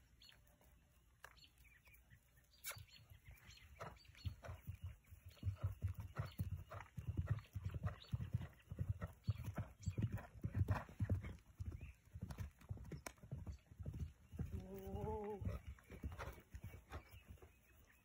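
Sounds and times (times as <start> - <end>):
hoofbeats on grass: 2.8 - 18.0.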